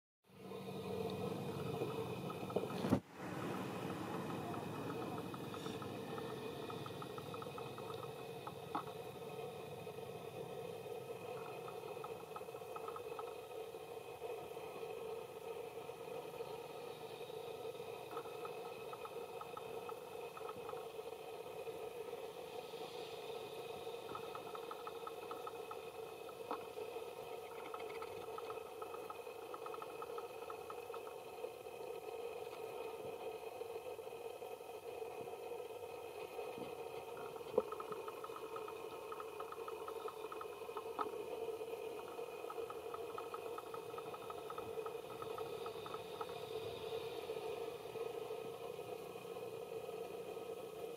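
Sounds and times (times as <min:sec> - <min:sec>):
outdoor background hum: 0:00.2 - 0:50.9
rapid ticking call: 0:00.5 - 0:33.8, 0:35.3 - 0:50.9.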